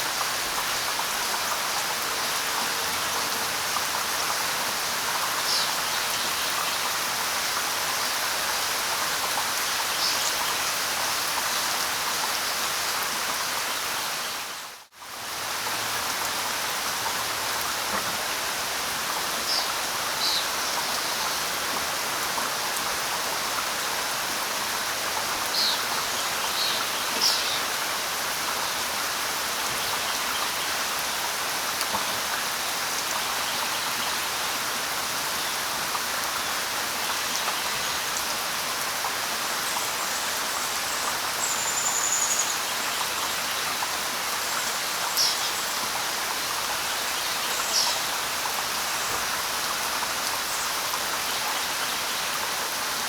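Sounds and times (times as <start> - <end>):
light rain falling: 0.0 - 53.0.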